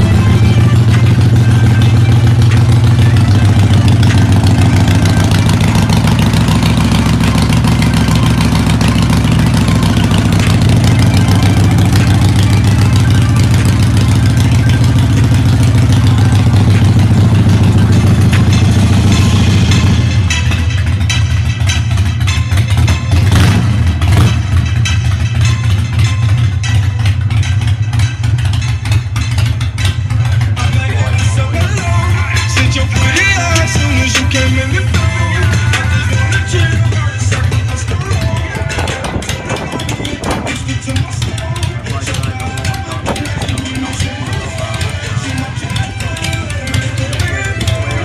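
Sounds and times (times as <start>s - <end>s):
small motorcycle engine running: 0.0s - 48.0s.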